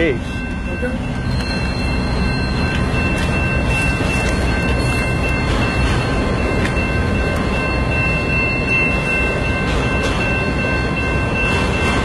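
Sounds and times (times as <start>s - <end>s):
freight train rumbling past: 0.0s - 12.0s
train wheels clicking: 0.2s - 12.0s.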